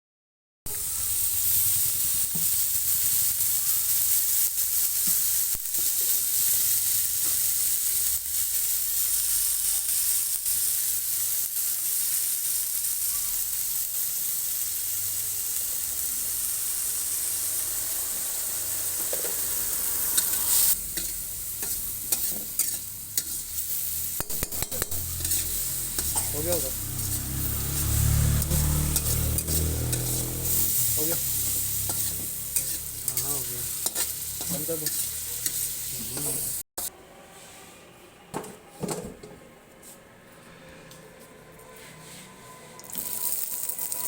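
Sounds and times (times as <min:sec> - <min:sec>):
food sizzling in oil: 0:00.7 - 0:36.9, 0:42.8 - 0:44.0.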